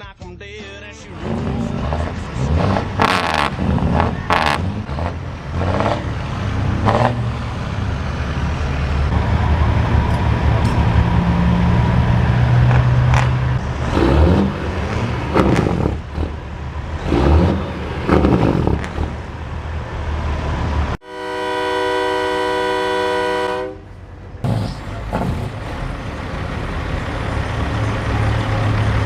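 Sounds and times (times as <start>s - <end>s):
diesel truck engines revving: 0.5s - 29.0s.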